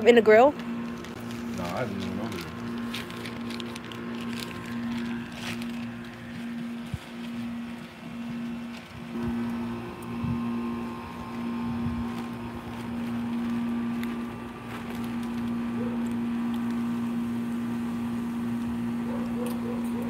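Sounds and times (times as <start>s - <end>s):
low mechanical hum: 0.0s - 20.0s
rustles: 0.6s - 20.0s.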